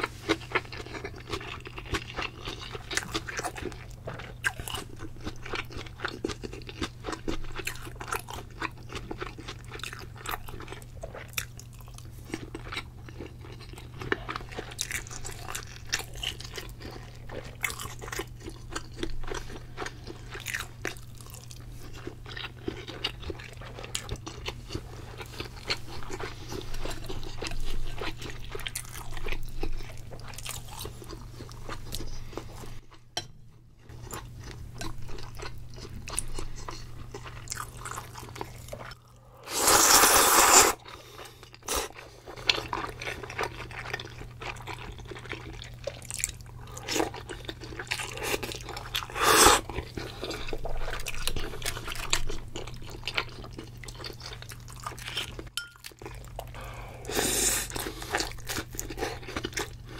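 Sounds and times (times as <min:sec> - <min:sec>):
chewing with wet clicks: 0:00.2 - 0:32.9, 0:33.8 - 0:39.2, 0:40.8 - 0:56.7, 0:57.7 - 0:59.9.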